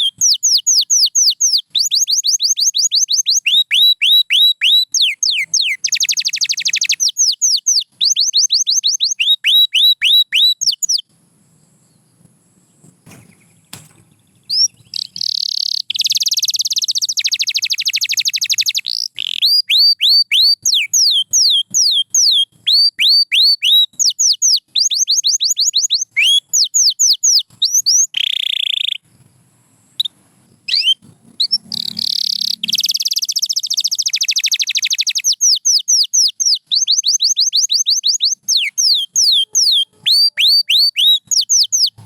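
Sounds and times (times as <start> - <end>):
canary singing: 0.0 - 29.1, 30.0 - 42.0.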